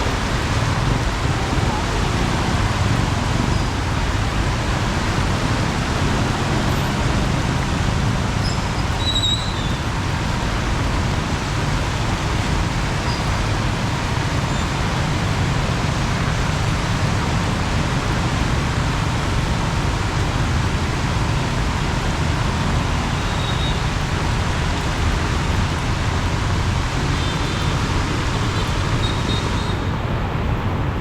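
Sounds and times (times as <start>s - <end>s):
heavy rain falling: 0.0s - 31.0s
traffic on a wet road: 0.0s - 31.0s.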